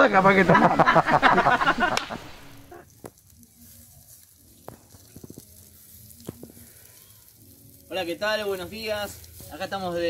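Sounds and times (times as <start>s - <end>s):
fire crackles: 0.0s - 10.0s
meat sizzling over fire: 0.0s - 10.0s.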